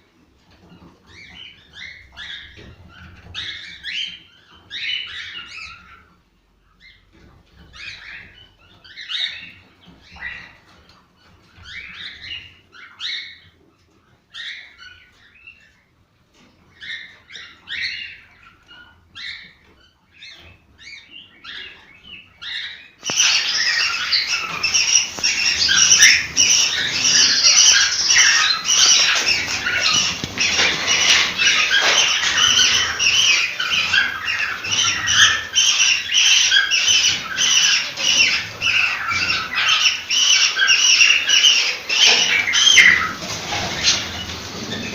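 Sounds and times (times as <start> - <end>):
cockatiels chirping: 0.6 - 6.2, 6.8 - 13.7, 14.3 - 44.9.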